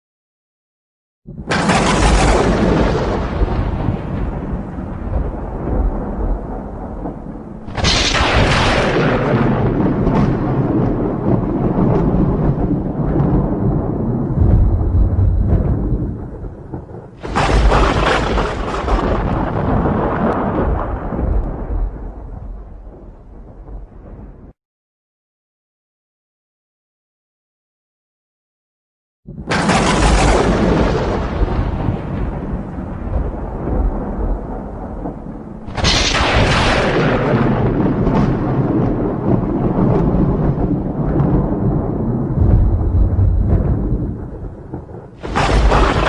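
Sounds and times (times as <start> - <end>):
low thunder rumble: 1.3 - 24.6, 29.3 - 46.0
sharp thunderclap: 1.3 - 24.6, 29.3 - 46.0.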